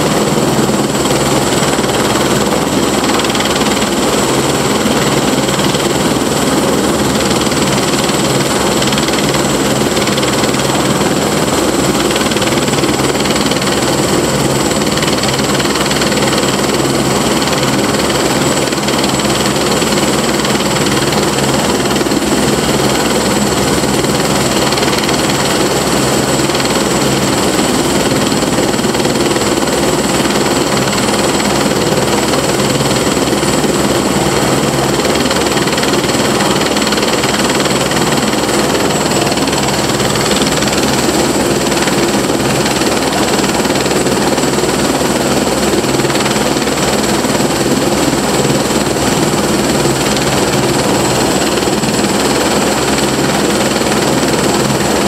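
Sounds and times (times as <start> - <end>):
helicopter rotor noise: 0.0 - 55.0
helicopter turbine whine: 0.0 - 55.0.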